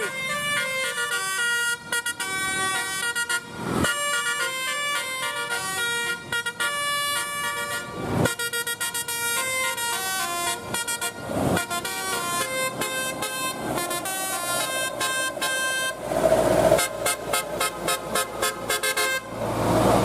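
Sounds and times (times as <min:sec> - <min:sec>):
musical bus horn melody: 0:00.0 - 0:16.0, 0:16.7 - 0:19.4.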